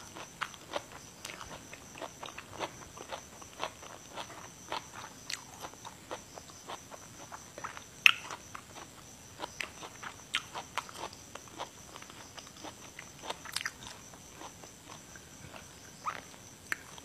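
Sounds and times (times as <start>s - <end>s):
chewing crisp vegetables: 0.0s - 17.0s.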